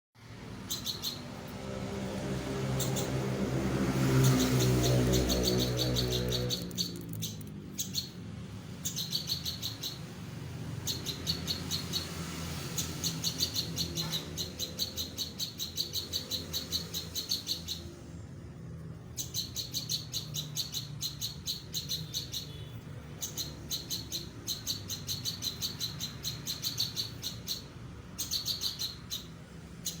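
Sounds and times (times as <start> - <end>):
bird rapid high chirping: 0.4 - 18.2, 19.0 - 30.0.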